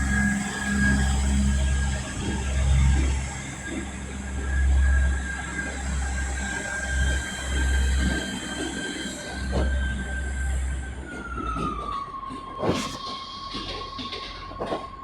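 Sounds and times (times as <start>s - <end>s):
deep pulsing train rumble: 0.0s - 15.0s
train wheels squealing: 0.0s - 15.0s.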